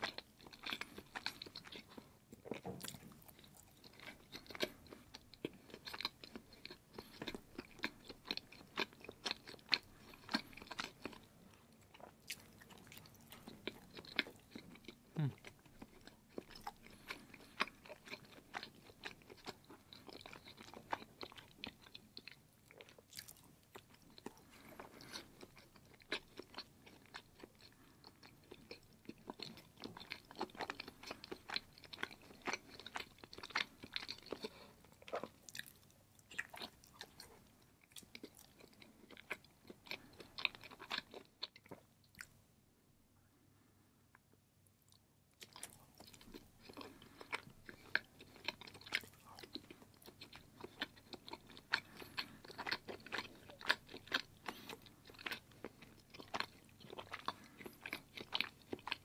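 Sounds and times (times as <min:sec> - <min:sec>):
person chewing cheese: 0:00.0 - 0:42.4, 0:44.7 - 0:59.0.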